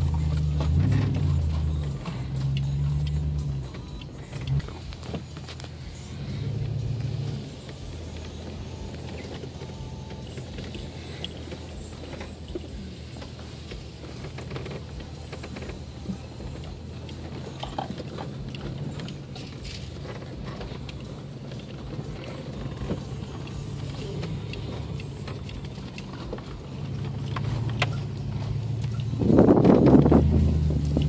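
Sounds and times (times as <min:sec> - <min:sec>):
truck engine running: 0:00.0 - 0:31.0.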